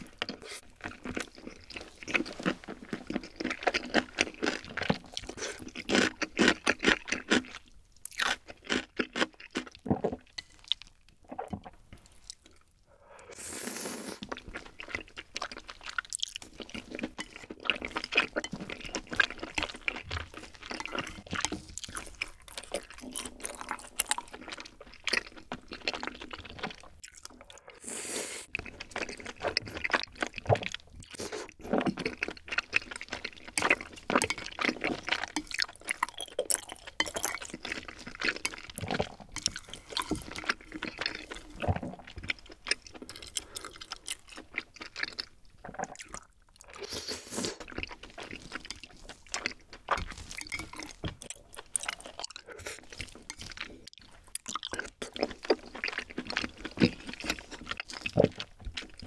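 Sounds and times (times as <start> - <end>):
wet chewing: 0.0 - 12.7, 14.1 - 27.8, 28.4 - 59.0.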